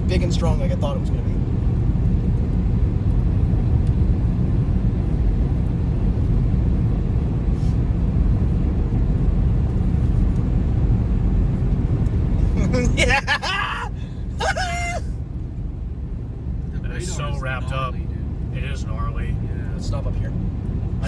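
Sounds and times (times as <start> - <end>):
car driving interior rumble: 0.0 - 21.0.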